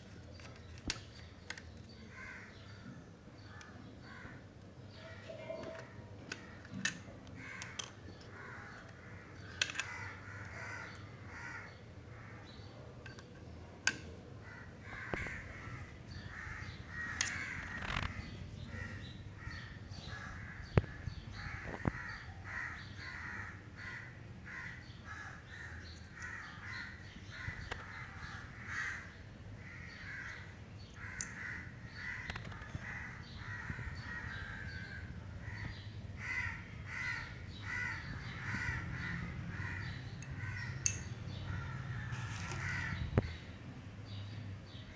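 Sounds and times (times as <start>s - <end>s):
birds calling: 0.0s - 44.9s.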